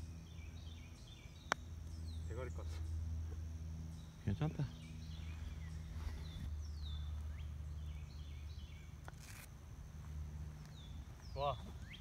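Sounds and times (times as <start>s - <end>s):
birds chirping and calling: 0.0s - 9.5s, 10.4s - 12.0s
steady low hum: 0.0s - 12.0s.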